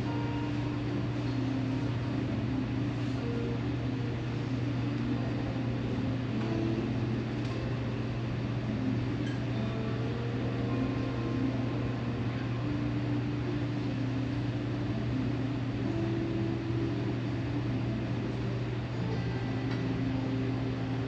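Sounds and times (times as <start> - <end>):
ambient relaxation music: 0.0 - 21.0
room hum: 0.0 - 21.0.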